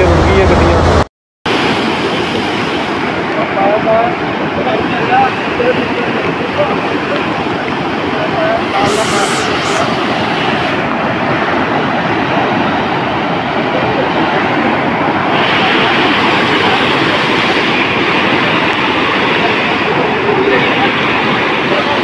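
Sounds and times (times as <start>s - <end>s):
floodwater rushing down a stream: 1.5s - 22.0s.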